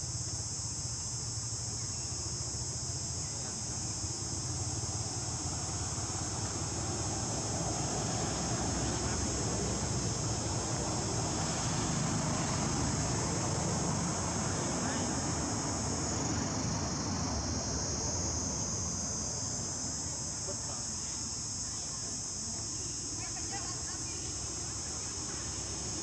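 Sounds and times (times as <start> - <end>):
insects droning: 0.0 - 26.0
low outdoor rumble: 3.2 - 26.0.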